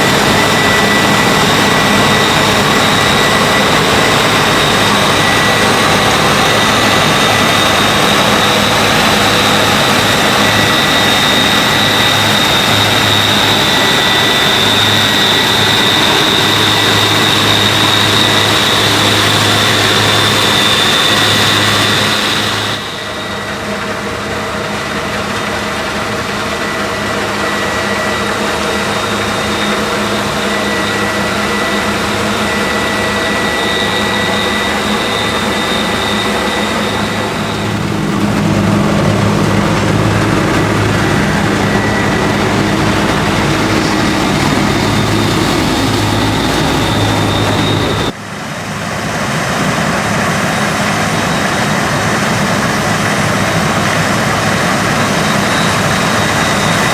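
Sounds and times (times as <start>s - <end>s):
combine harvester running: 0.0s - 56.9s.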